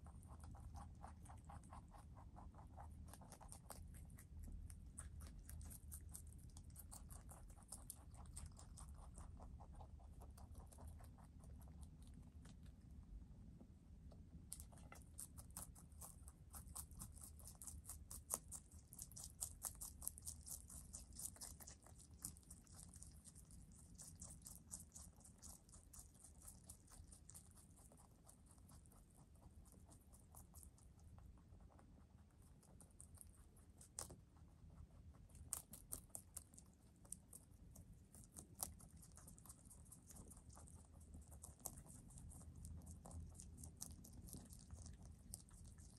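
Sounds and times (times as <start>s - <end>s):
rabbits chewing greens: 0.0s - 45.9s.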